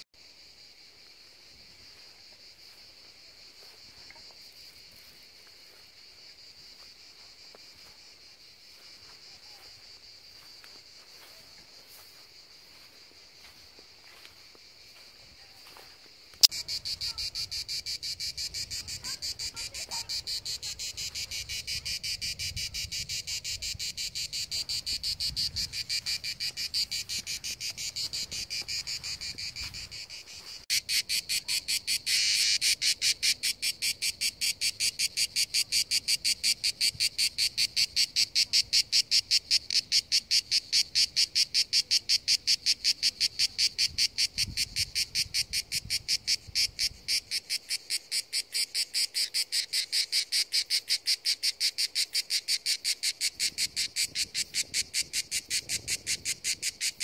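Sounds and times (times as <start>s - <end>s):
cicadas pulsing chant: 0.2s - 57.0s.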